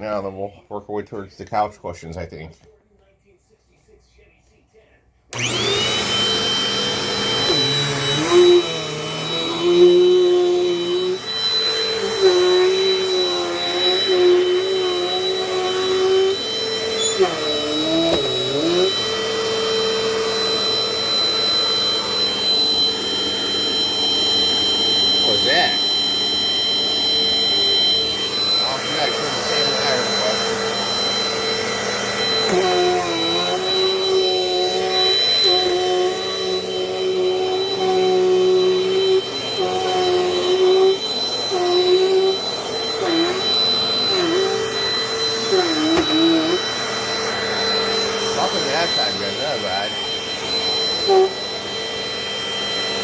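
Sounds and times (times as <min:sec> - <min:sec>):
vacuum cleaner running: 0:05.3 - 0:53.0.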